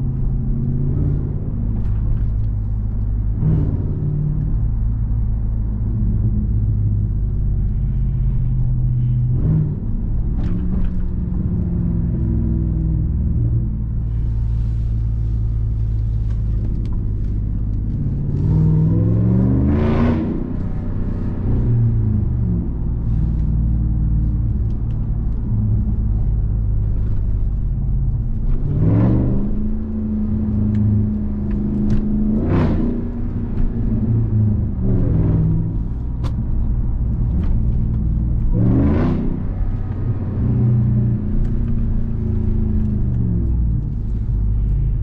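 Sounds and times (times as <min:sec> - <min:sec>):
engine rumbling and revving: 0:00.0 - 0:45.0.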